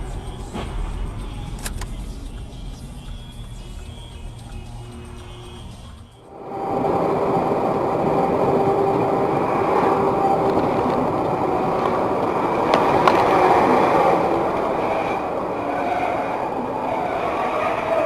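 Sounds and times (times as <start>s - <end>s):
faint steady tones: 0.0s - 18.0s
vehicle running noise: 0.0s - 18.0s.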